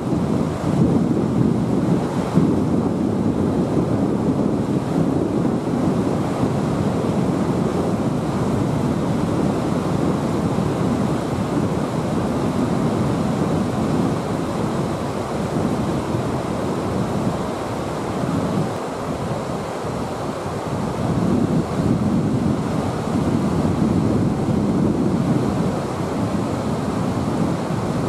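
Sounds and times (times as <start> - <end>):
water rushing over river riffle: 0.0 - 28.0.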